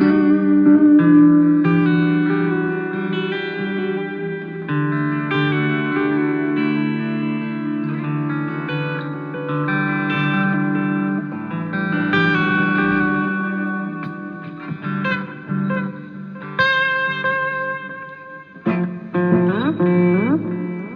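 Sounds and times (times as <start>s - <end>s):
guitar sustained notes: 0.0s - 20.9s.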